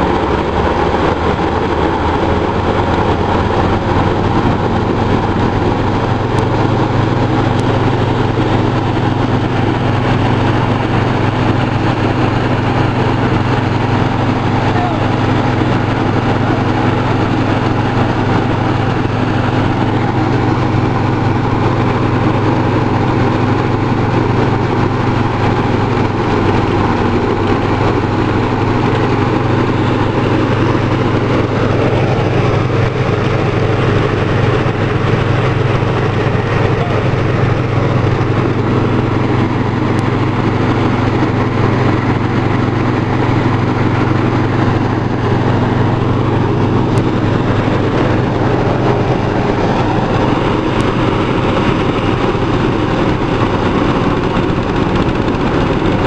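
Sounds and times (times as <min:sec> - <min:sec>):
rice thresher droning: 0:00.0 - 0:56.0.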